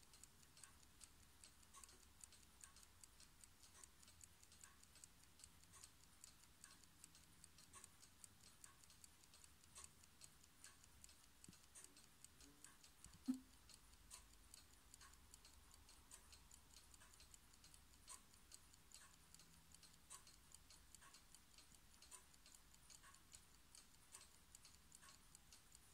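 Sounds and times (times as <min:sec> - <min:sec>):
clock ticking: 0:00.0 - 0:25.9.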